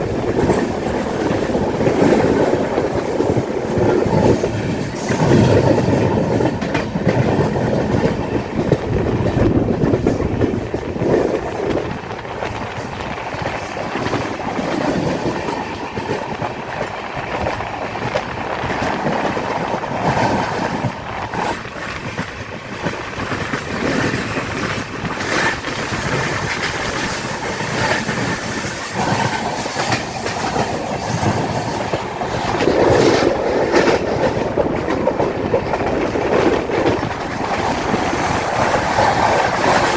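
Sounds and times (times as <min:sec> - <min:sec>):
rail joints clickety-clack: 0:00.0 - 0:39.9
train wheels rumbling on rail: 0:00.0 - 0:39.9.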